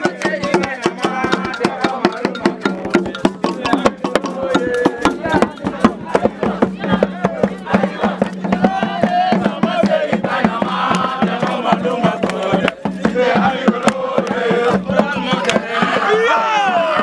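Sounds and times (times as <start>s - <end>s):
fast rhythmic percussion: 0.0s - 17.0s
voices chanting and singing: 0.0s - 17.0s.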